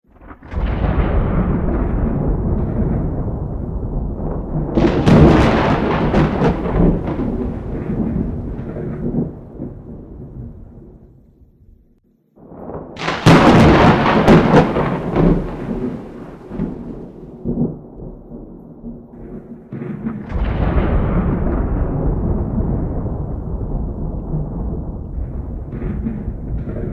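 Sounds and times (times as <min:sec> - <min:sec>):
thunderclaps with rolling rumble: 0:00.2 - 0:11.8, 0:12.4 - 0:26.9.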